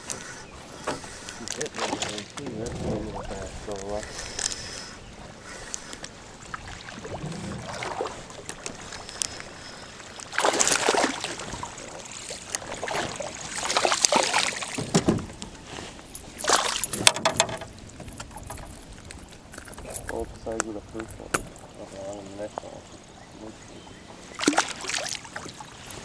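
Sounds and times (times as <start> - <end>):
water splashing: 1.3 - 23.0, 24.2 - 26.0.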